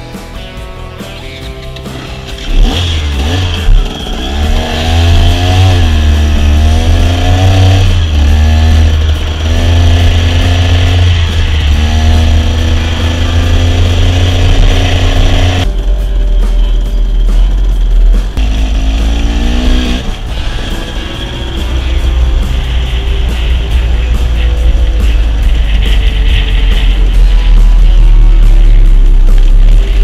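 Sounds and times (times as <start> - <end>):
music: 0.0 - 30.0
dirt bike engine revving: 2.1 - 15.9, 16.6 - 30.0.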